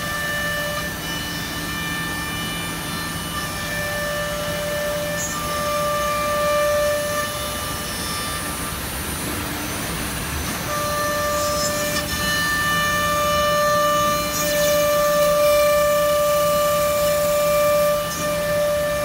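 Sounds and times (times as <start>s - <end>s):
router spindle high whine: 0.0s - 19.0s.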